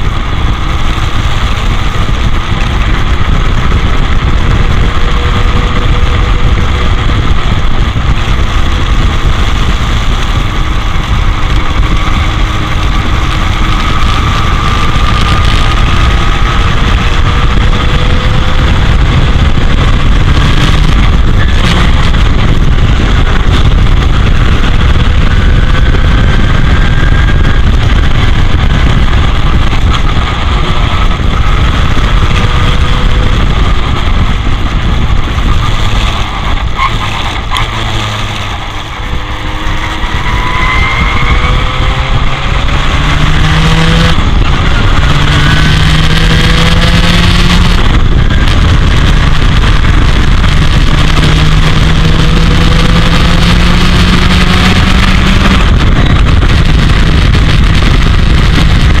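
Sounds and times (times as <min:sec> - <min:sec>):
heavy wind buffeting: 0:00.0 - 0:59.0
racing car engine revving: 0:00.0 - 0:59.0.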